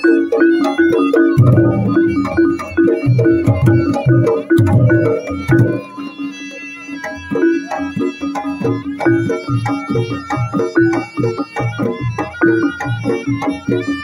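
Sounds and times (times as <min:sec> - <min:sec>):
hand drum beating: 0:00.0 - 0:06.2, 0:07.0 - 0:14.0
ringing gong chimes: 0:00.0 - 0:11.8.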